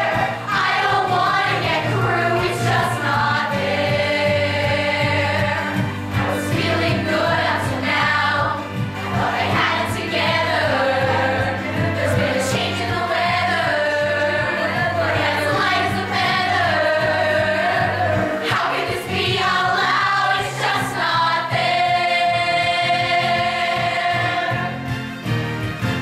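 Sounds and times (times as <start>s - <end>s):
ensemble singing in chorus: 0.0s - 25.2s.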